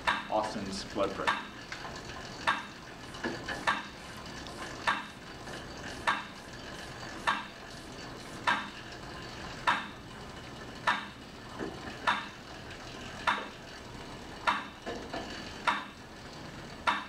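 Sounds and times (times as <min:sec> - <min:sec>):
exercise bike hiss: 0:00.0 - 0:17.0.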